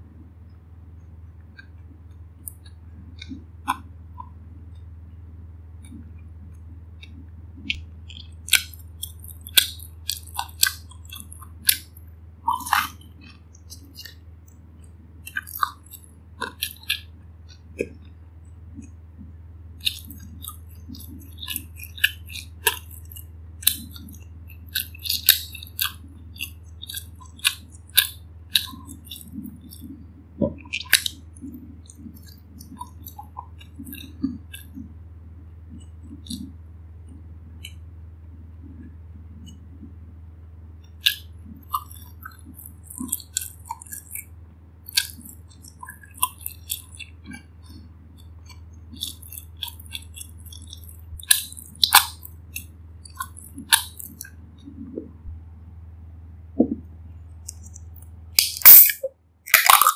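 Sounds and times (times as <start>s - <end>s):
steady low hum: 0.0s - 59.9s
crisp mouth clicks and smacks: 1.2s - 4.9s, 5.8s - 35.0s, 35.7s - 37.8s, 40.8s - 55.3s, 56.6s - 59.9s
chewing and biting food: 1.3s - 4.9s, 5.8s - 35.0s, 35.6s - 37.9s, 40.8s - 55.3s, 57.4s - 59.9s.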